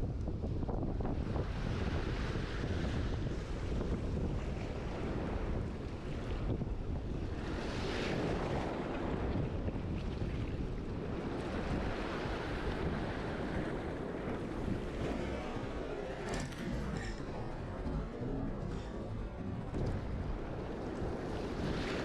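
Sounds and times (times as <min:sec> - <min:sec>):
wind buffeting microphone: 0:00.0 - 0:22.0
surf washing over reef: 0:01.0 - 0:22.0.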